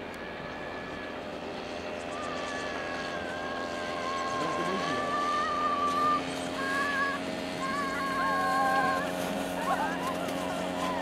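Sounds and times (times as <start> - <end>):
two-stroke engine buzzing whine: 0.0 - 11.0.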